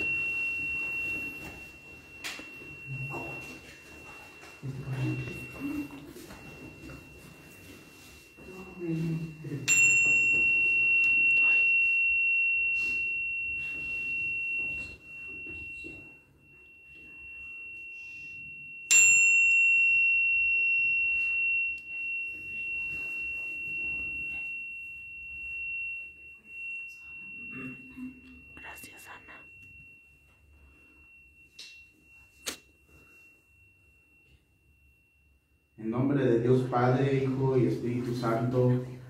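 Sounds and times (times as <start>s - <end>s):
small metal chime ringing: 0.0s - 39.0s.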